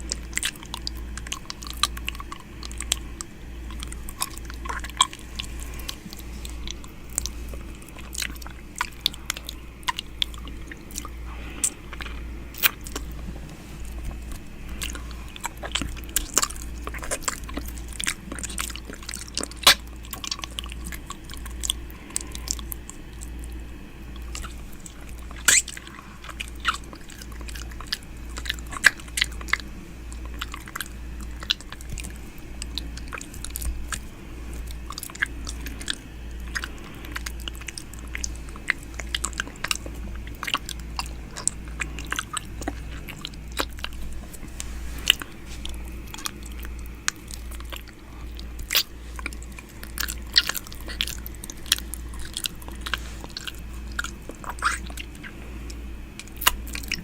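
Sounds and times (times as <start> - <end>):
steady low hum: 0.0 - 57.0
wet mouth clicks and smacks: 0.1 - 13.3, 13.9 - 57.0.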